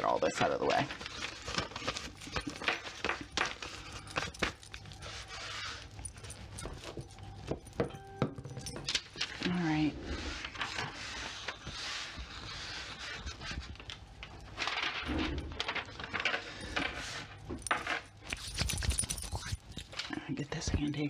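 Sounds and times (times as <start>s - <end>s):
wax paper rustling and crinkling: 0.0s - 7.8s, 8.7s - 21.0s
small items clinking and tapping: 0.0s - 9.8s, 13.8s - 21.0s.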